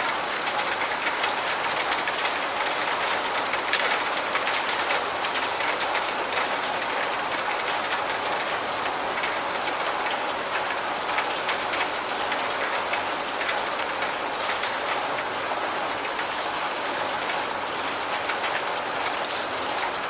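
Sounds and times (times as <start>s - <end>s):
close raindrop ticks: 0.0s - 20.0s.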